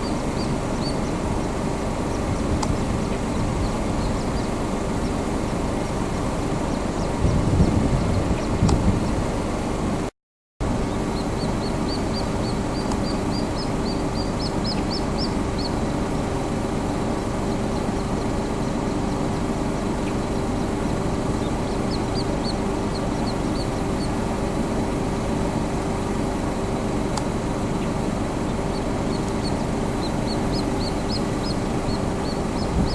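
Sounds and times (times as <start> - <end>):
grebes peeping: 0.0 - 9.4, 10.6 - 32.9
low rumble with hum: 0.0 - 32.9.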